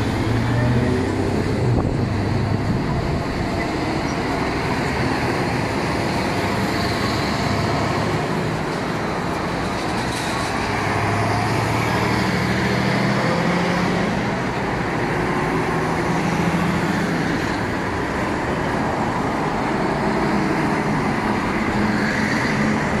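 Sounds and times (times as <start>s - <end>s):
road traffic rushing past: 0.0s - 23.0s
truck diesel engine: 0.0s - 23.0s.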